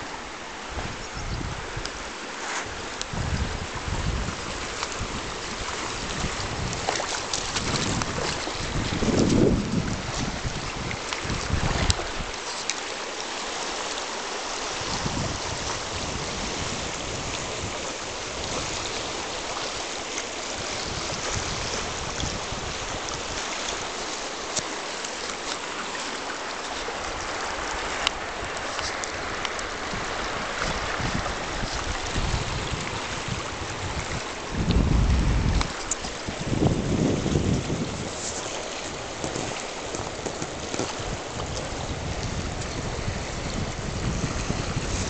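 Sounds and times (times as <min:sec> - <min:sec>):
river babbling over stones: 0:00.0 - 0:45.0.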